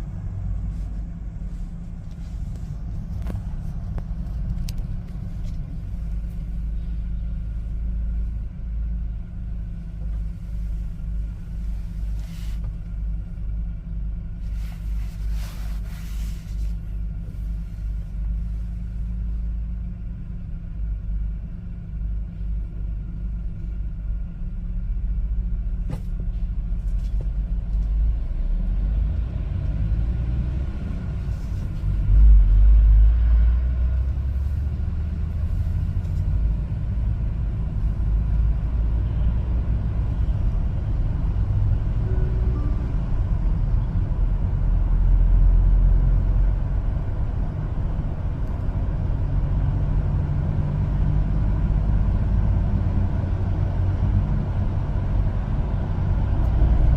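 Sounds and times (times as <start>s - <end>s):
truck engine and road noise: 0.0s - 56.9s.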